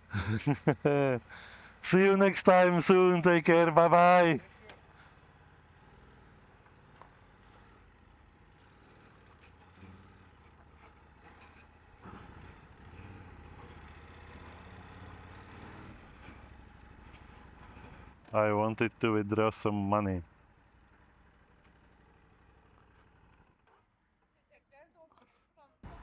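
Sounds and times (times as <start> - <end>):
faint motorcycle engine hum: 0.0 - 26.0.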